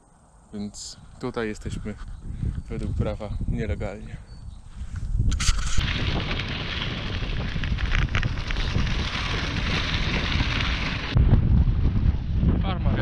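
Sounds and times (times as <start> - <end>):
tyres crackling over rough ground: 0.6 - 13.0
wind rumbling on microphone: 0.6 - 13.0.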